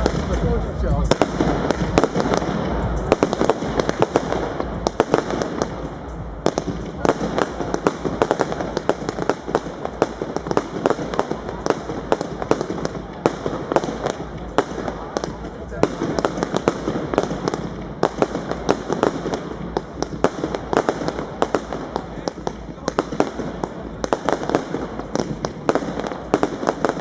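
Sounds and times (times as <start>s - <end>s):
firework cake pops and bangs: 0.0s - 27.0s
firework hiss: 0.0s - 27.0s.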